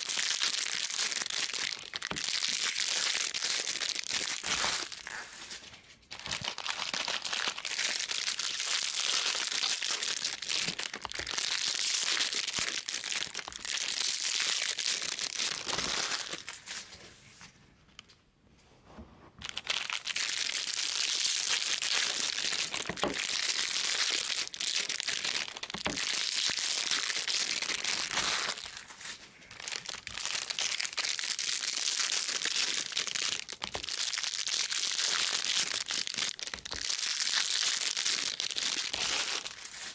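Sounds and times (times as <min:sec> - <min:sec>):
foil wrappers tearing and crinkling: 0:00.0 - 0:16.9, 0:19.4 - 0:39.9.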